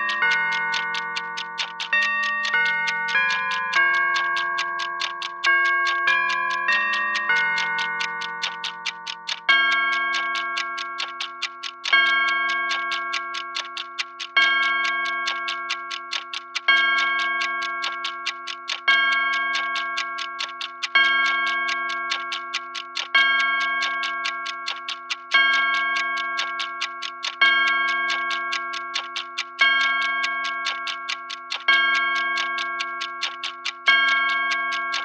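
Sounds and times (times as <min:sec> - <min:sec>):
bell-like chime: 0:00.0 - 0:35.0
clock ticking rapidly: 0:00.0 - 0:35.0.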